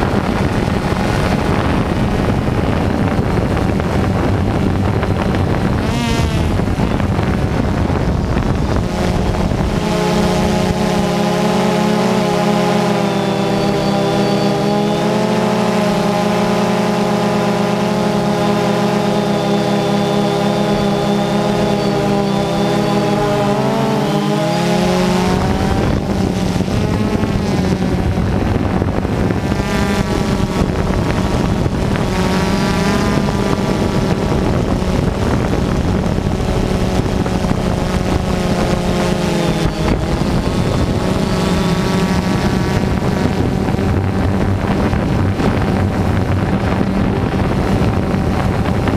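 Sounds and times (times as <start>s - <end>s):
drone propellers whining: 0.0s - 48.9s
wind rumbling on microphone: 0.0s - 48.9s.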